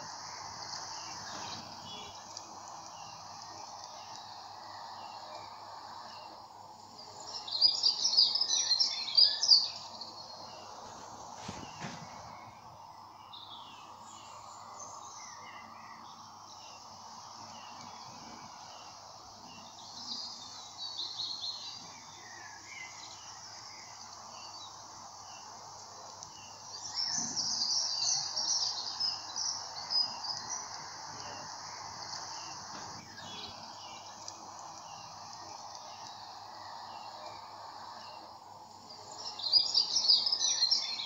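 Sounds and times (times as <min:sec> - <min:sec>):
outdoor background hiss: 0:00.0 - 0:41.0
songbirds chirping and singing: 0:00.0 - 0:41.0.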